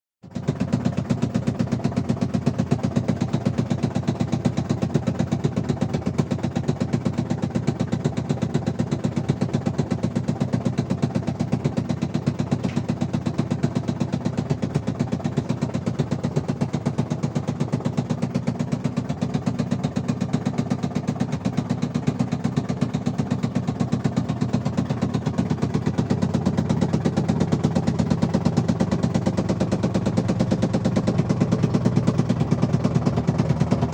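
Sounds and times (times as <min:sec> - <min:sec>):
engine idling with a knock: 0:00.3 - 0:33.9.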